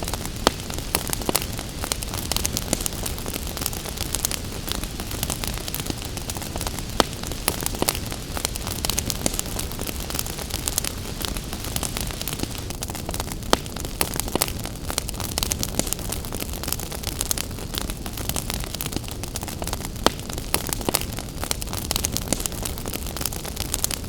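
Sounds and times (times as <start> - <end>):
fireplace crackling and popping: 0.0 - 24.0.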